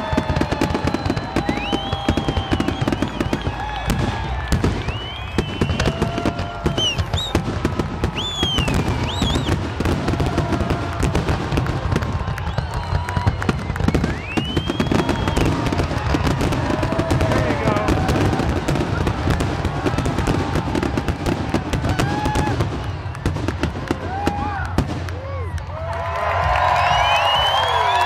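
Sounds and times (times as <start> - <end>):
fireworks whistling: 0.0 - 24.6
fireworks crackling: 0.0 - 25.6.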